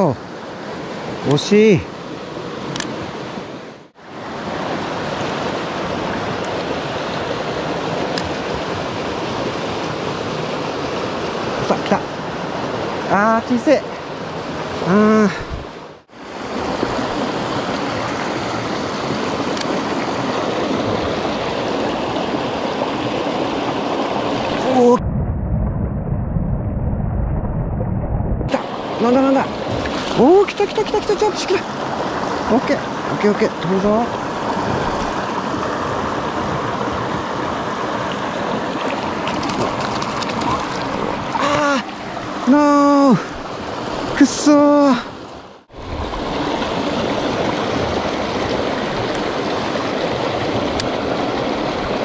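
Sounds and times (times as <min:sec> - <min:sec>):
creek water rushing over rocks: 0:00.0 - 0:25.0, 0:28.5 - 0:52.0.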